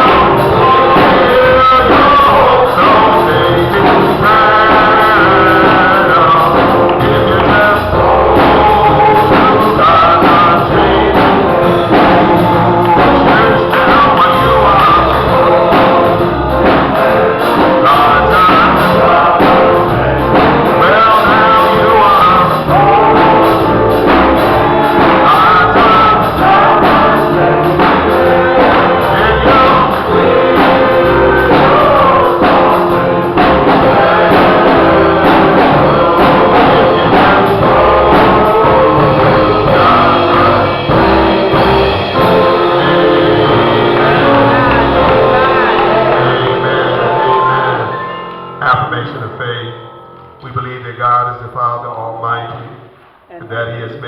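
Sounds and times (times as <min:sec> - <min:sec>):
gospel singing with instruments: 0:00.0 - 0:54.0.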